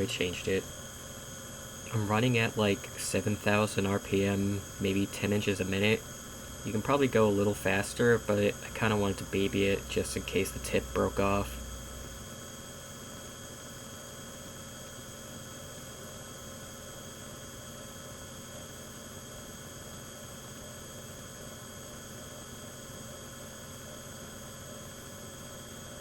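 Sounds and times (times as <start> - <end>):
milling machine humming and whining: 0.0 - 26.0.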